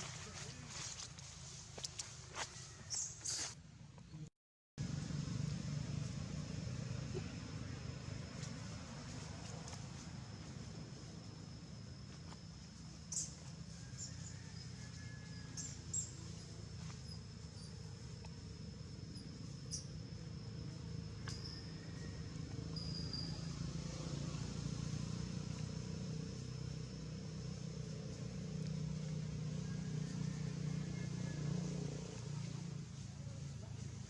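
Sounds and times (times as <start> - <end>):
high insect tone: 5.4 - 33.9.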